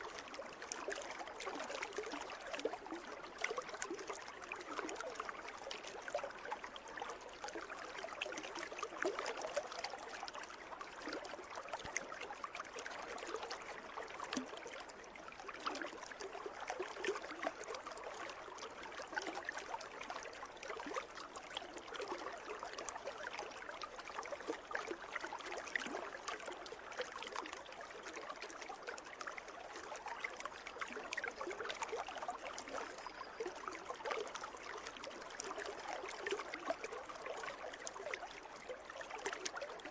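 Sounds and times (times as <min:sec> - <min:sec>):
pool water trickling and splashing: 0:00.0 - 0:39.9.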